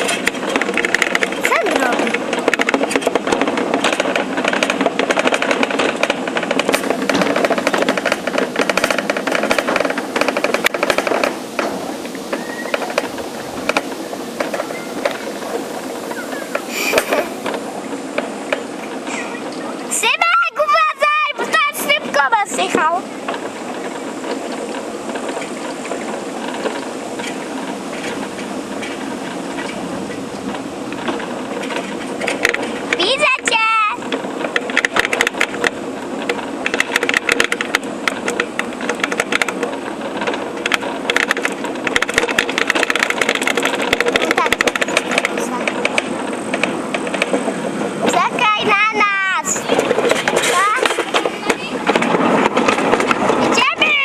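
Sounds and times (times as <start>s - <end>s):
sled rattling down steel trough: 0.0s - 54.0s.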